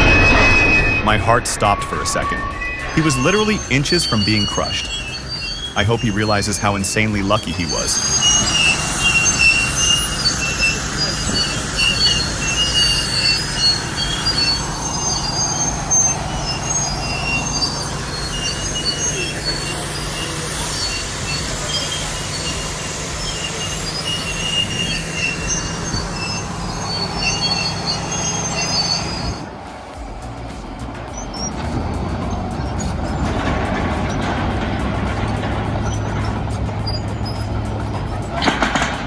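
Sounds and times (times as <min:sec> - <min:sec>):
diesel engine running: 0:00.0 - 0:39.0
high metallic squealing: 0:00.0 - 0:39.0.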